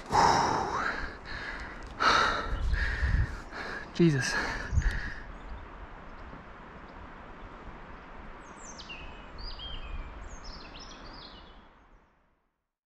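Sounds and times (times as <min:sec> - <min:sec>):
outdoor background hiss: 0:00.0 - 0:12.7.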